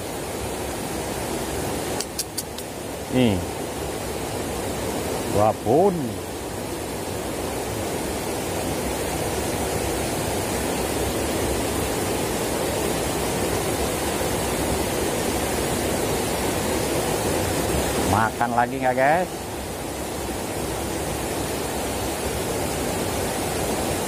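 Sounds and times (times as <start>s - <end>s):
water rushing over stones: 0.0s - 24.0s.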